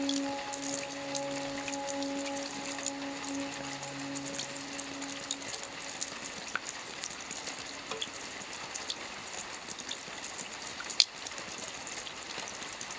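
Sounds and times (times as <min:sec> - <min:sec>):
rain falling: 0:00.0 - 0:12.9.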